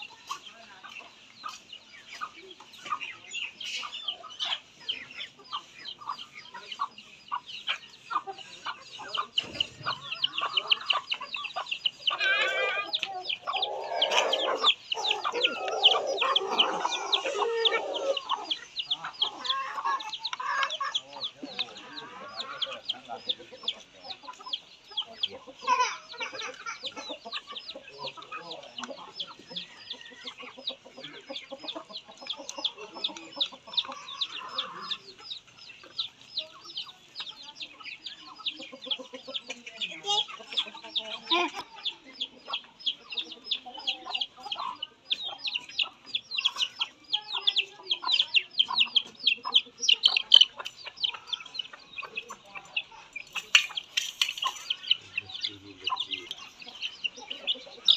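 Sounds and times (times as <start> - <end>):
chicks peeping: 0.0 - 57.9.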